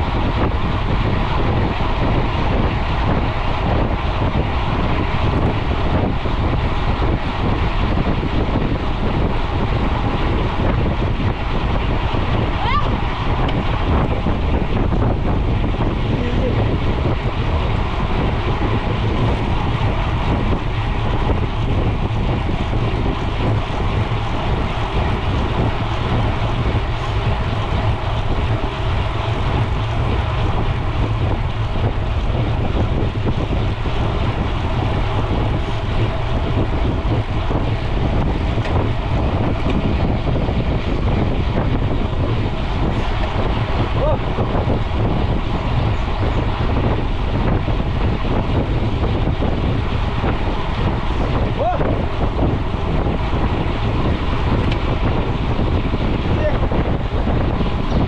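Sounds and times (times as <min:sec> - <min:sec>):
tyre and road rumble: 0:00.0 - 0:58.0
wind noise on microphone: 0:00.0 - 0:58.0.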